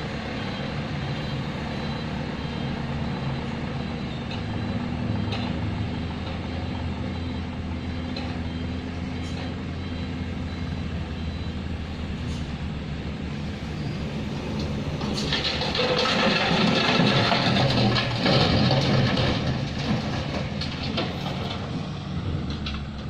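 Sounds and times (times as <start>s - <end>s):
heavy diesel machinery drone: 0.0s - 23.0s.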